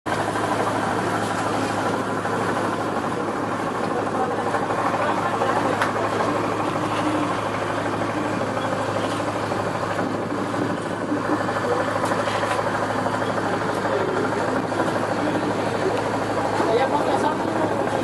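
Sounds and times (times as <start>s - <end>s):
diesel engine droning: 0.1s - 18.0s.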